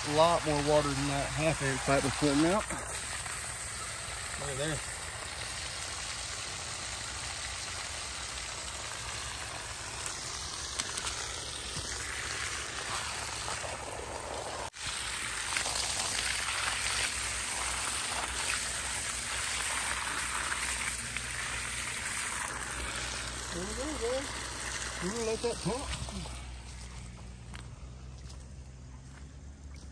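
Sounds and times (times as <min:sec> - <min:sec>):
water gushing from a pipe: 0:00.0 - 0:26.9
water splashing onto ground: 0:00.0 - 0:27.6.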